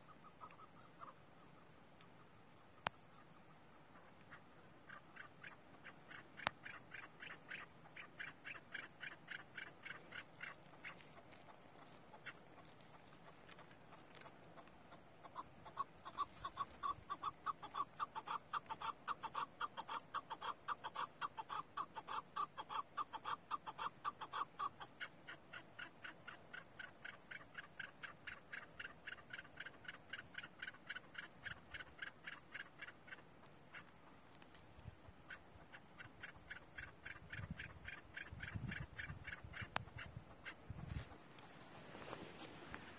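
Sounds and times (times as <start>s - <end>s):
partridges rapid clucking calls: 0.0s - 42.9s.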